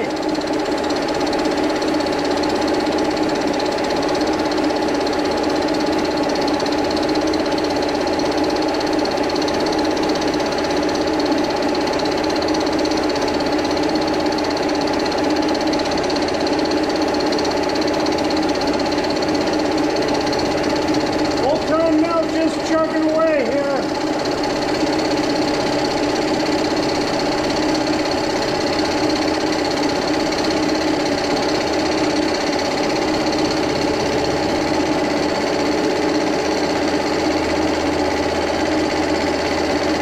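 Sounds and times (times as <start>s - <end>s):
milling machine motor hum: 0.0s - 40.0s.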